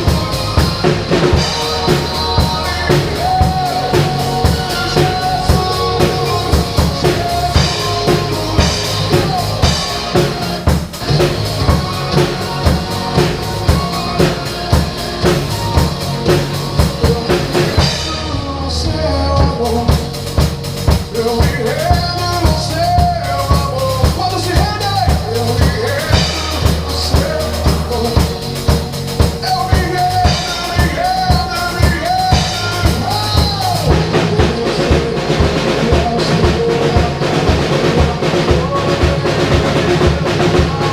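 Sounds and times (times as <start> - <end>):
drum kit playing a beat: 0.0 - 40.9
recorded worship song: 0.0 - 40.9.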